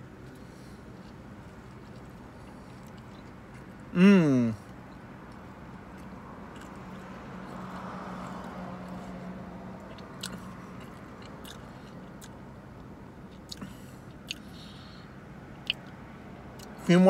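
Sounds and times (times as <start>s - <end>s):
steady low hum: 0.0s - 17.0s
person chewing: 0.2s - 9.2s, 9.8s - 15.0s, 15.6s - 16.0s.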